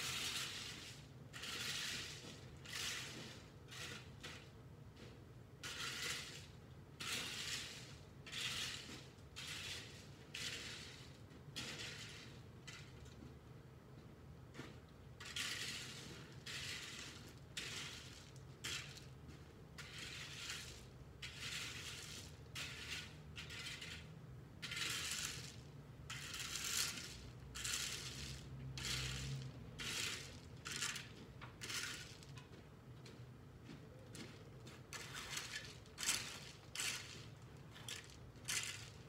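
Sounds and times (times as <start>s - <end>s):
rake scraping through gravel: 0.0s - 13.0s, 14.5s - 32.5s, 34.2s - 39.0s.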